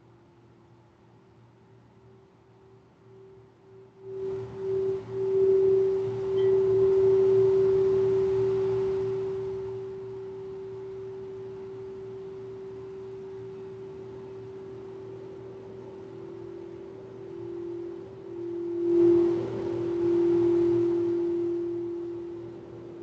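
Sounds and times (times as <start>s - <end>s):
singing bowl ringing: 4.0s - 23.0s.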